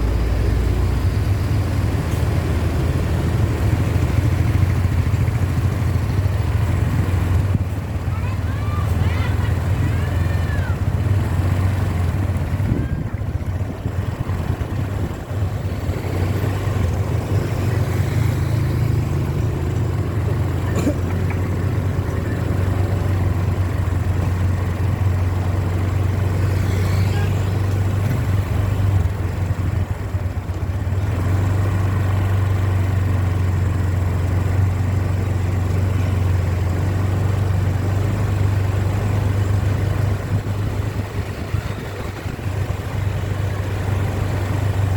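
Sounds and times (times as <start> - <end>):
bus engine running: 0.0 - 44.9.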